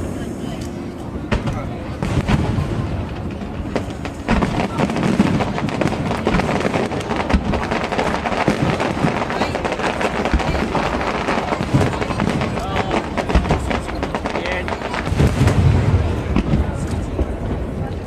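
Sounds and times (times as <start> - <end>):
crowd chattering: 0.0 - 18.0
fireworks bangs and crackles: 0.0 - 18.0.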